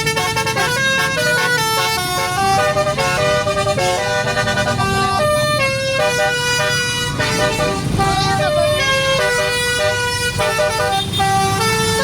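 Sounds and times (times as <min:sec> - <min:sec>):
bus horn playing a tune: 0:00.0 - 0:12.0.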